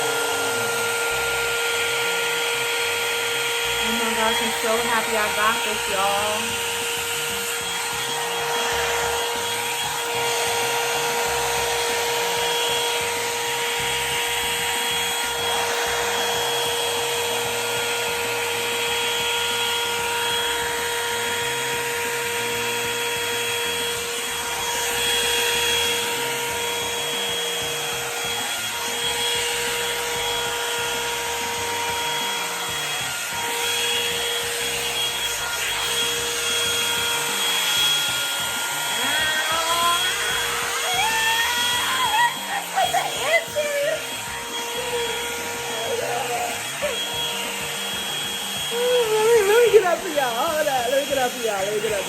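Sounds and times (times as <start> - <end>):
hair dryer brush running: 0.0 - 52.0.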